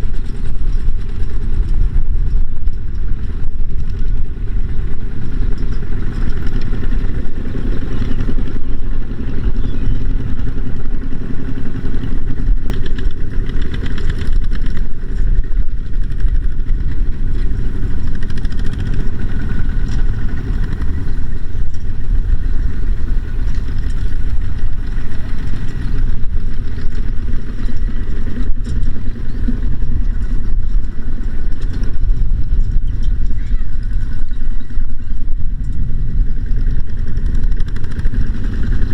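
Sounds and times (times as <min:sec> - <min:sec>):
farm machine engine running: 0:00.0 - 0:38.9.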